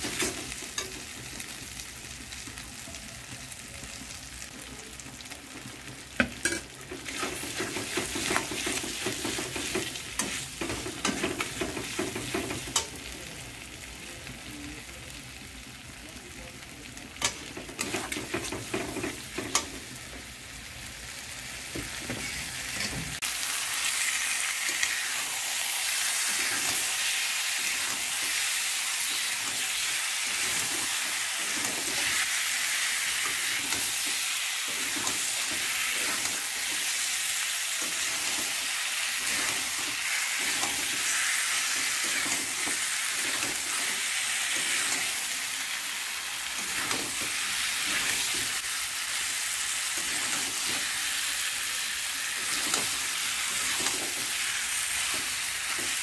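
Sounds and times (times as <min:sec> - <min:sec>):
chicken sizzling in oil: 0:00.0 - 0:56.0.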